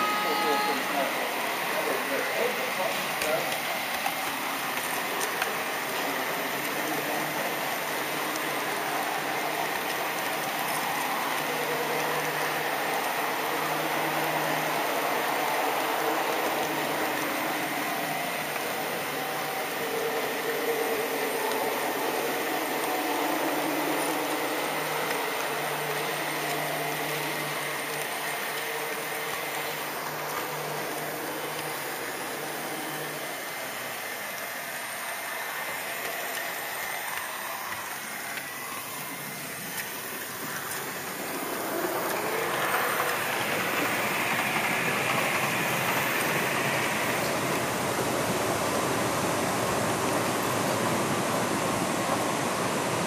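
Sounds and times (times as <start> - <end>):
model train wheels rumbling: 0.0 - 53.0.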